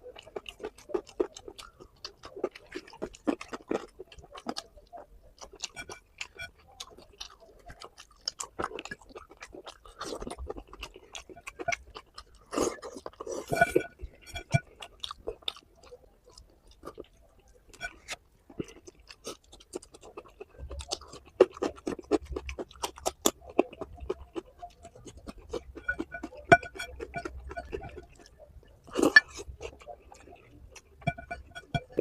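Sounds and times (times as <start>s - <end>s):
person chewing and smacking: 0.0s - 32.0s.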